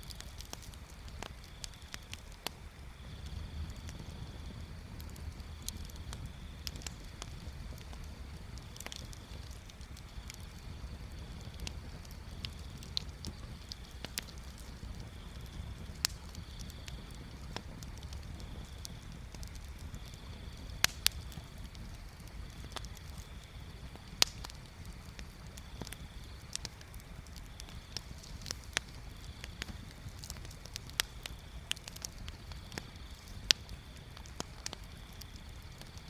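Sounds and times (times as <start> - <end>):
bonfire crackling: 0.0 - 36.0
steady low rumble: 0.0 - 36.0.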